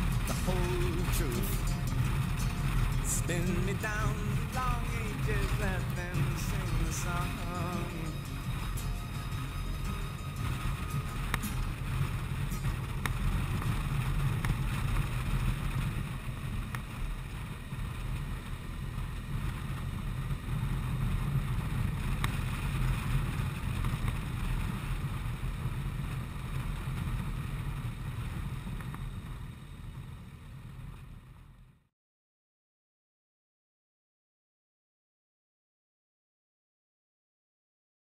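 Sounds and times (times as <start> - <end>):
wind rumbling on microphone: 0.0 - 31.7
motorcycle running: 0.0 - 31.9.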